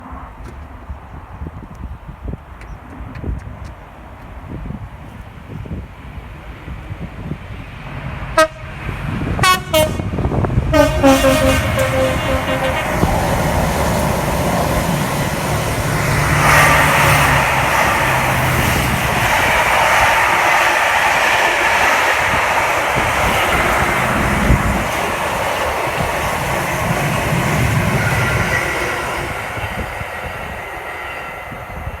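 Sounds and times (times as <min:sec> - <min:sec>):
train engine hum: 0:00.0 - 0:32.0
train wheels on rails: 0:00.1 - 0:32.0.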